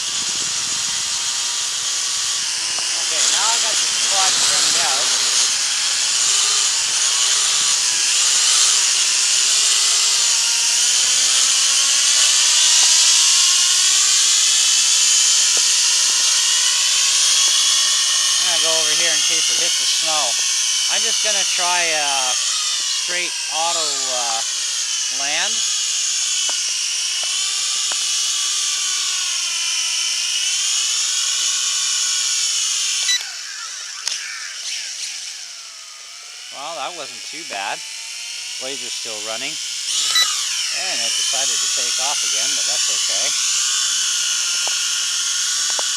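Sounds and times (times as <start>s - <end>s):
toy drone propellers whining: 0.0s - 45.9s.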